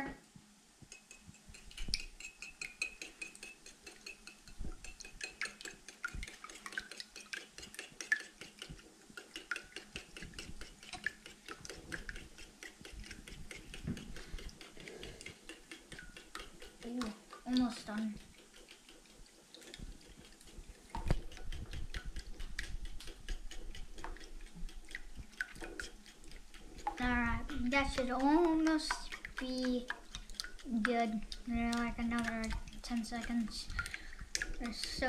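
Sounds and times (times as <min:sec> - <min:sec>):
fork beating eggs in a bowl: 0:00.9 - 0:35.0.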